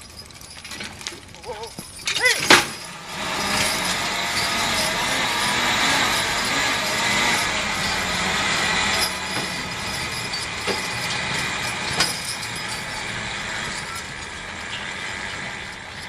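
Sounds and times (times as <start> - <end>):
truck engine and hydraulic pump: 0.0 - 16.0.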